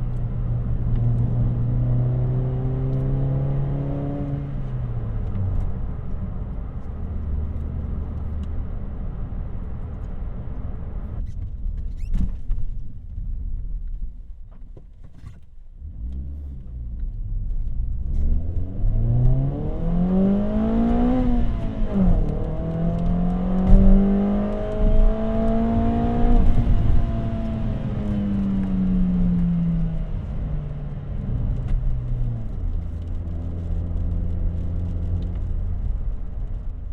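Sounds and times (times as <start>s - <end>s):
car engine revving: 0.0s - 10.0s, 15.8s - 36.6s.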